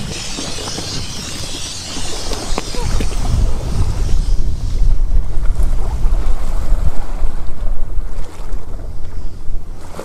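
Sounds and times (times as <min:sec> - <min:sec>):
sea waves: 0:00.0 - 0:10.0
wind buffeting microphone: 0:00.0 - 0:10.0.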